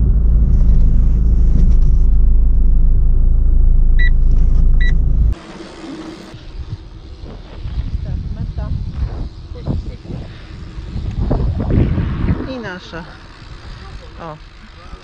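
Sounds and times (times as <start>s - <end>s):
car engine and road rumble: 0.0s - 15.0s
outdoor noise: 0.0s - 15.0s.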